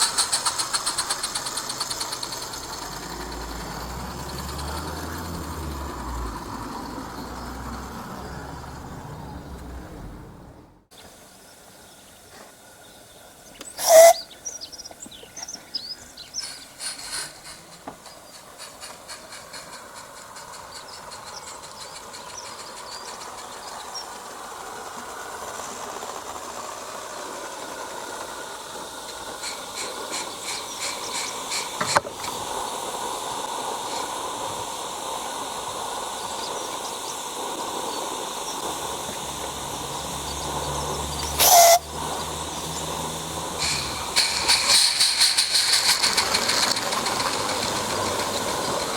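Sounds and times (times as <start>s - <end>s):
steam locomotive hiss and exhaust: 0.0s - 48.9s.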